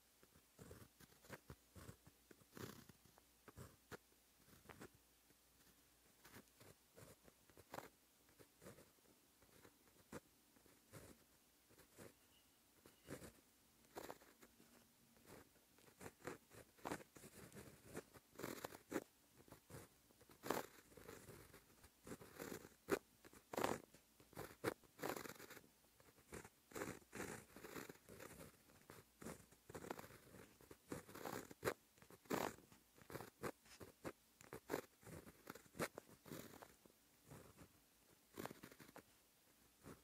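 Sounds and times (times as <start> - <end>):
pen nib scratching on paper: 0.0 - 40.0.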